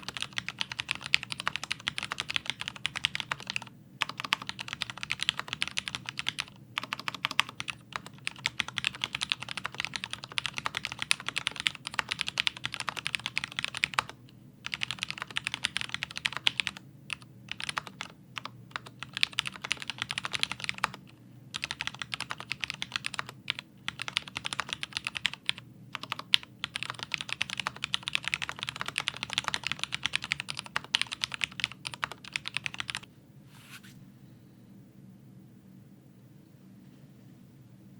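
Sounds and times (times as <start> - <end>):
mechanical keyboard typing: 0.0 - 33.1.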